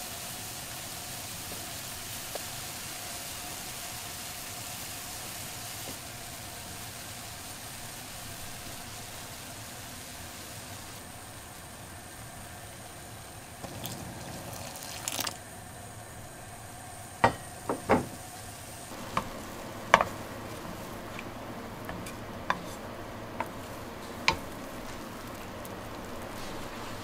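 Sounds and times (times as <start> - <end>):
boiling water hissing: 0.0 - 27.0.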